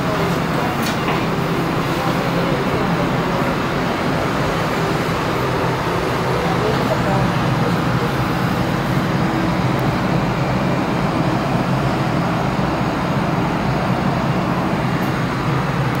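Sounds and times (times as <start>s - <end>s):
metro train rumbling: 0.0s - 16.0s.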